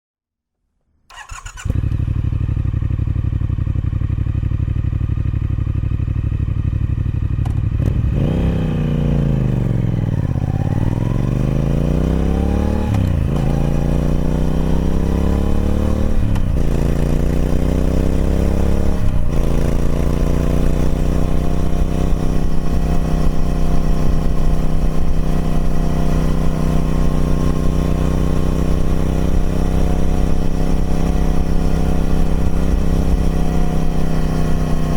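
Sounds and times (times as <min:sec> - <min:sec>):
motorcycle engine accelerating: 0:01.1 - 0:34.9.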